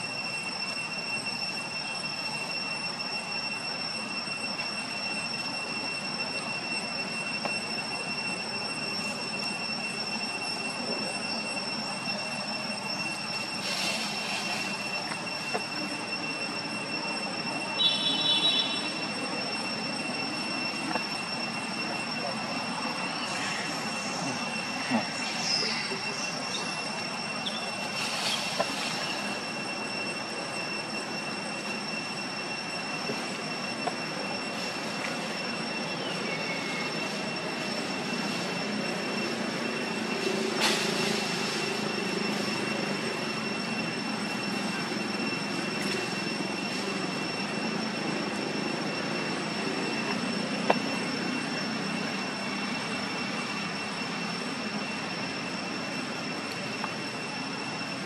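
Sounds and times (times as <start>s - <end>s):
high-pitched whining tones: 0.0s - 58.0s.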